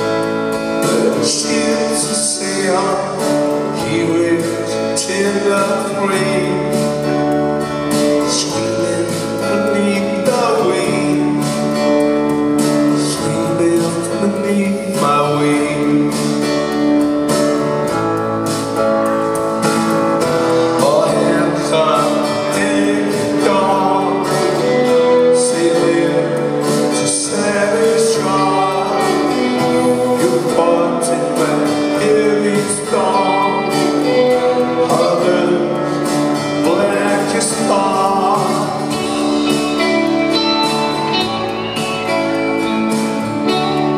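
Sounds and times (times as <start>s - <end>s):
male lead vocal: 0.0s - 17.0s, 20.2s - 43.9s
live rock band playing: 0.0s - 43.9s.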